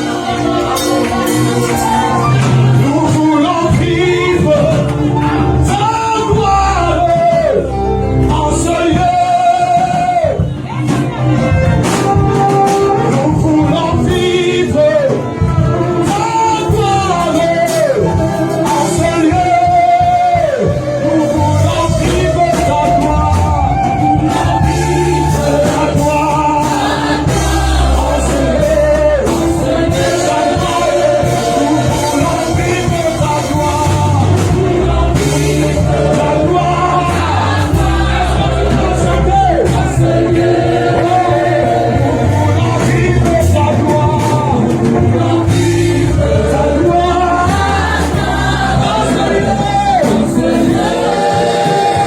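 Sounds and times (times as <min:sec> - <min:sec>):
band with bass and drums: 0:00.0 - 0:52.0
voices singing: 0:00.0 - 0:52.0.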